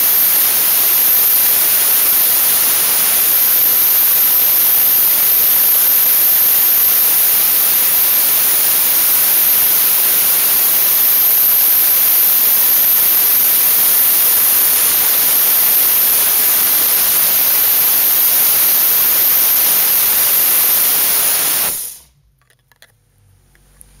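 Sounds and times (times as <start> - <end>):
dry-ice blasting gun hissing: 0.0 - 22.2.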